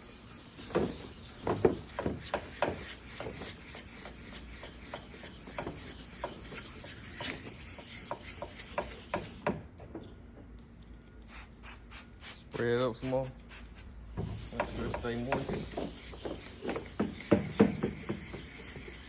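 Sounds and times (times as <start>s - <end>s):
wet sandpaper rubbing on plastic: 0.0s - 9.4s, 11.3s - 19.0s.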